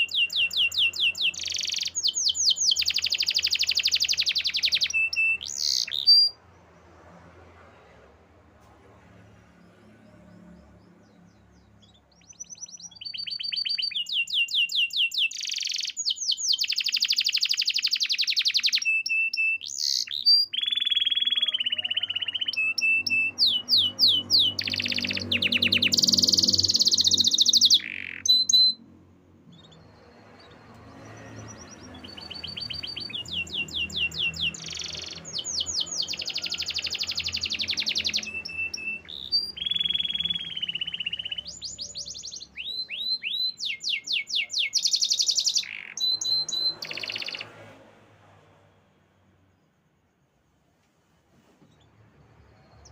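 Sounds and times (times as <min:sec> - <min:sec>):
canary singing: 0:00.0 - 0:07.0, 0:09.4 - 0:47.8.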